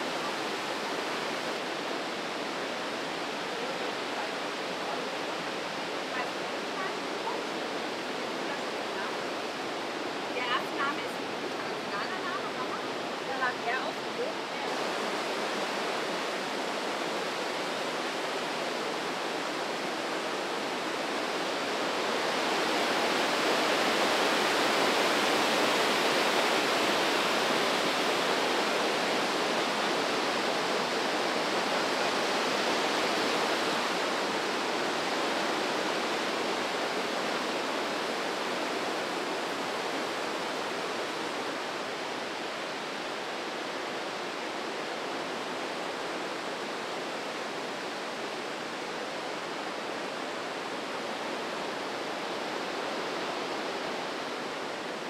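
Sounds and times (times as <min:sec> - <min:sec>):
white water rushing: 0:00.0 - 0:55.0.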